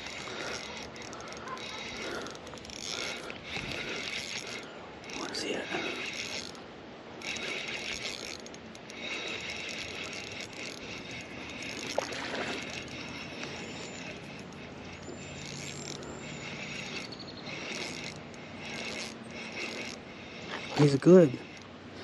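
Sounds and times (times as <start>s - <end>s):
fishing reel whirring and clicking: 0.0s - 22.0s.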